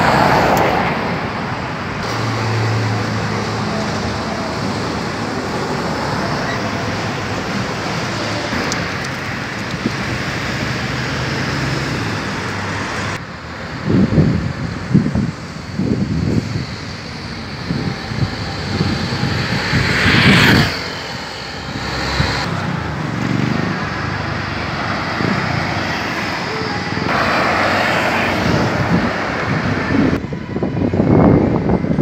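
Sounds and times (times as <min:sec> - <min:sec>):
cars and buses driving past: 0:00.0 - 0:32.0
wind buffeting microphone: 0:03.2 - 0:32.0.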